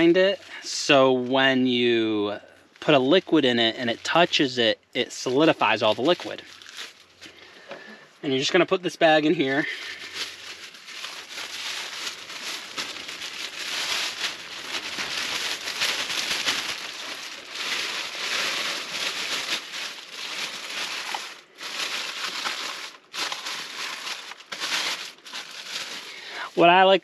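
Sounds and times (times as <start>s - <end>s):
plastic bag crinkling: 2.8s - 4.5s, 5.2s - 8.6s, 9.2s - 27.0s.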